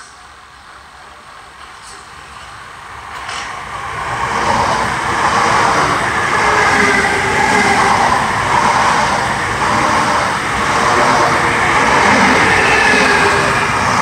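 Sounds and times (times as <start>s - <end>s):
train passing on rails: 0.0s - 14.0s.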